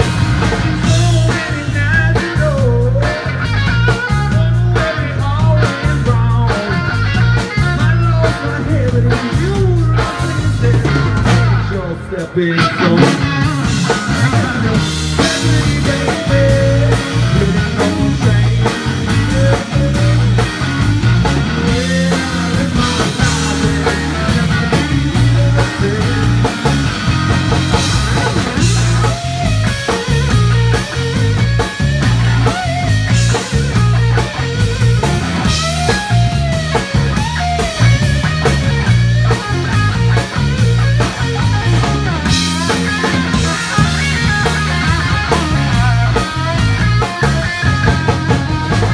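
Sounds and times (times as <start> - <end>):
bass guitar: 0.0 - 48.9
drum kit: 0.0 - 48.9
electric guitar lead with bends: 0.0 - 48.9.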